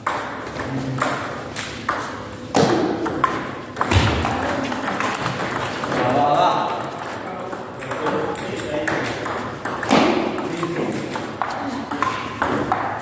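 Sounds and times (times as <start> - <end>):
table tennis ball hits: 0.0 - 13.0.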